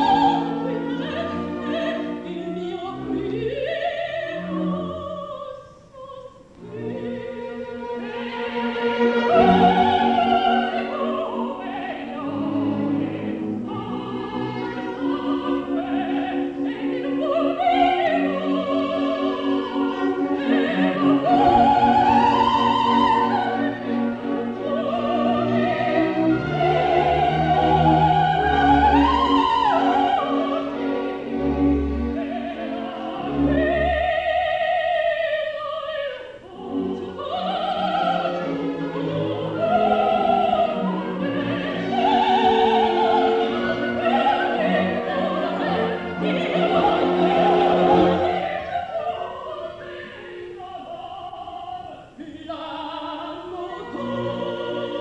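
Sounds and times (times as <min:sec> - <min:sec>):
orchestra: 0:00.0 - 0:55.0
women singing opera: 0:00.0 - 0:55.0.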